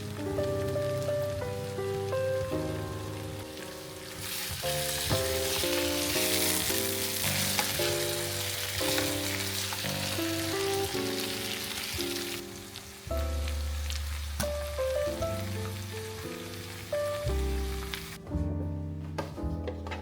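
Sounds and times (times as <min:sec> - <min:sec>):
food sizzling in frying pan: 0:00.0 - 0:18.2
soft background music: 0:00.0 - 0:20.0.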